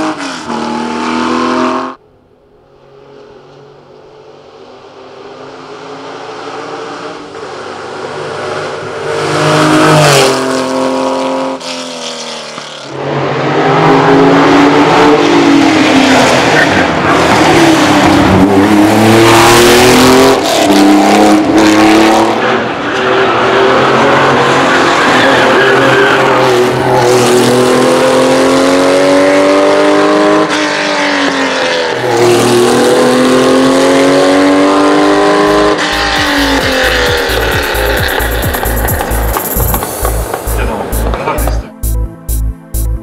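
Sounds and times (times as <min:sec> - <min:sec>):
racing car engine at full revs: 0:00.0 - 0:02.0, 0:02.8 - 0:41.6.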